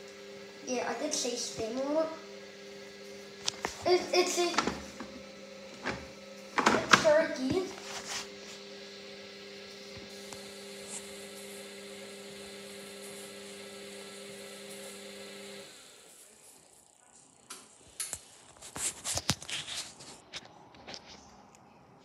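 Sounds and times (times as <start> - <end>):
washing machine motor hum: 0.0 - 17.9.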